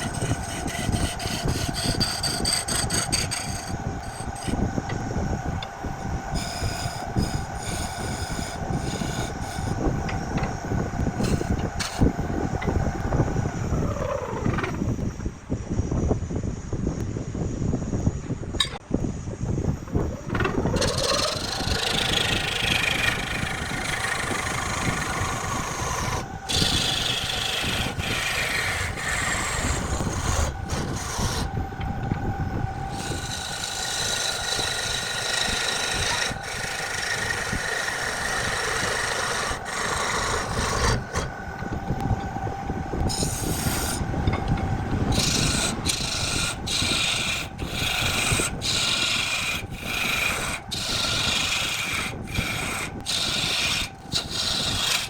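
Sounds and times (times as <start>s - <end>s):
tool scraping wood on lathe: 0.0s - 15.1s, 19.9s - 31.6s, 32.7s - 42.3s, 43.0s - 55.0s.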